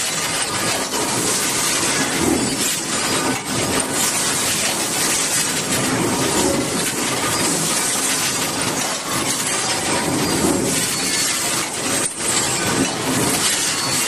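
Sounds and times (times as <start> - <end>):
forging press machine din: 0.0 - 14.0.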